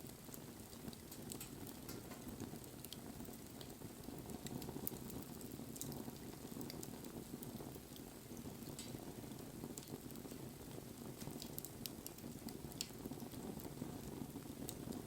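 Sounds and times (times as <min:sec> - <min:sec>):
burning wood crackling: 0:00.0 - 0:15.0.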